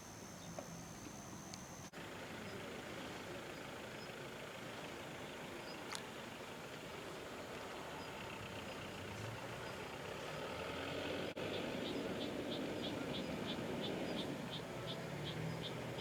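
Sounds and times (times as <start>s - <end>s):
outdoor background rumble: 0.0s - 16.0s.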